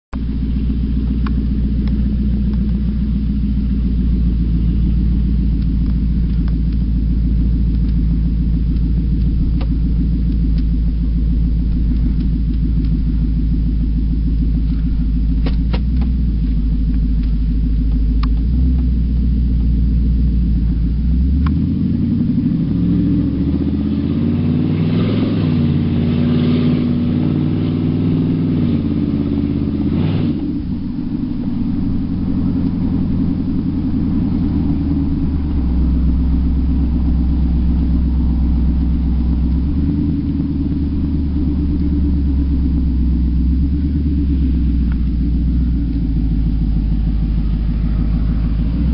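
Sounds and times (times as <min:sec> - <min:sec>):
truck engine deep rumble: 0:00.0 - 0:48.9.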